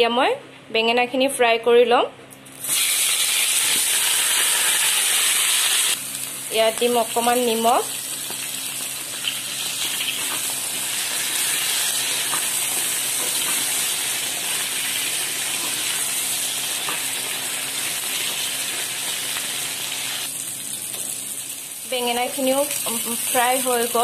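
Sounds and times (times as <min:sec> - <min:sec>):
eggplant sizzling in oil: 0:02.6 - 0:24.0.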